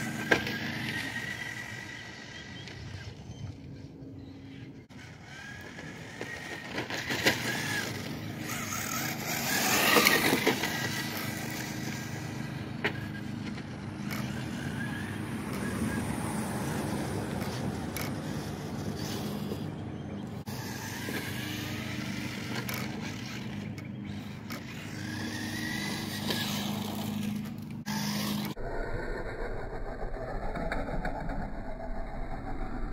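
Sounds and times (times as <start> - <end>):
tyres on rough asphalt: 0.0 - 28.6
electric motor whining: 0.0 - 30.1.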